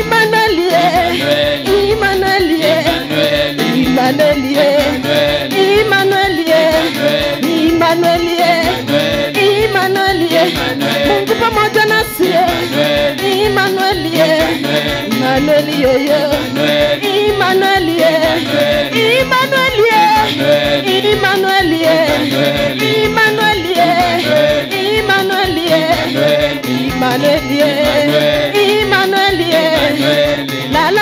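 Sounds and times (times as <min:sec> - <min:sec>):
electronic keyboard: 0:00.0 - 0:30.9
women singing: 0:00.0 - 0:31.0
steady drum beat: 0:00.8 - 0:31.0.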